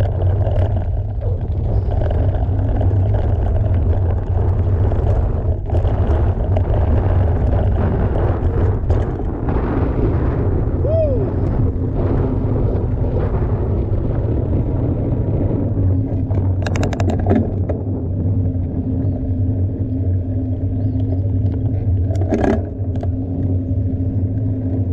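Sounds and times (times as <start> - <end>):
bike tyres rumbling on trail: 0.0 - 24.9
wind on microphone: 0.0 - 24.9.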